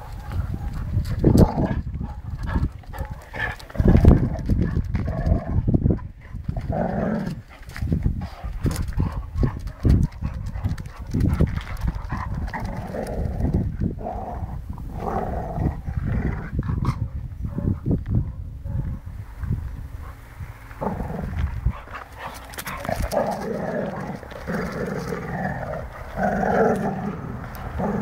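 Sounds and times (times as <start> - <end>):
dogs scuffling on concrete: 0.0 - 14.0, 19.4 - 28.0
dogs growling: 1.2 - 17.1, 20.7 - 28.0.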